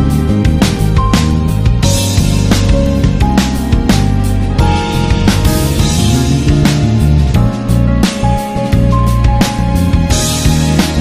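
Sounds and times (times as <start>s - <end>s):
background music with a beat: 0.0s - 11.0s.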